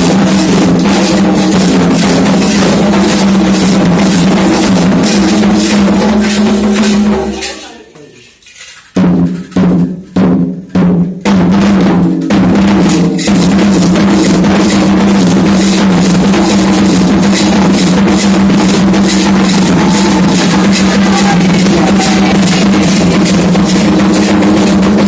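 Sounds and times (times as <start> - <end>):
hand drums playing: 0.0 - 7.8, 9.0 - 25.0.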